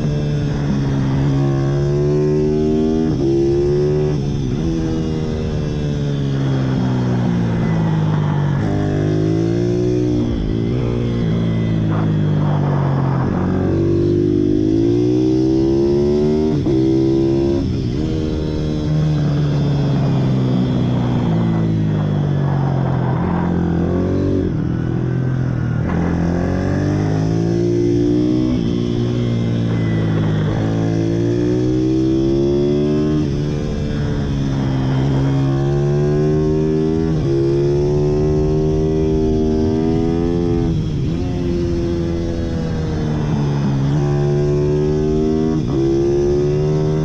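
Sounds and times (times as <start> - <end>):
motorbike engine revving: 0.0 - 47.0.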